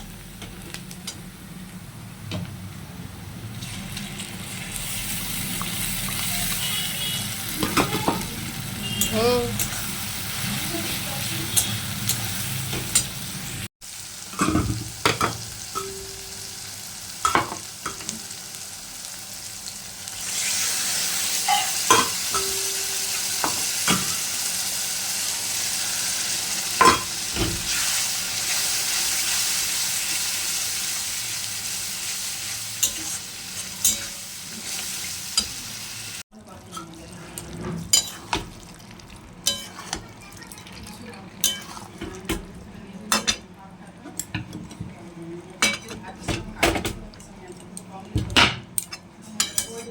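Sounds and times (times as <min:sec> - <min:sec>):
food sizzling in a pan: 0:03.4 - 0:43.4.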